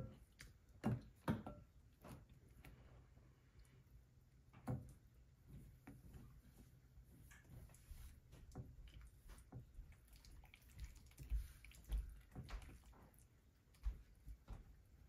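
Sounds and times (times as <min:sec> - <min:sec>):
wet squishes of slime: 0:00.0 - 0:15.0.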